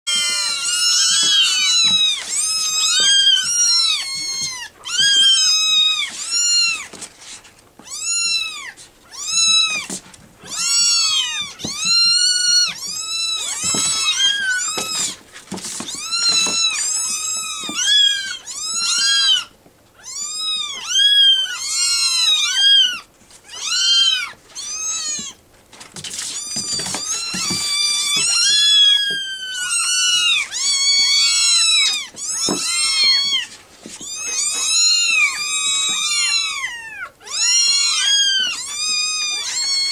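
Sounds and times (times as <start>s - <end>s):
kittens meowing: 0.1s - 6.9s, 7.8s - 25.4s, 26.0s - 39.9s.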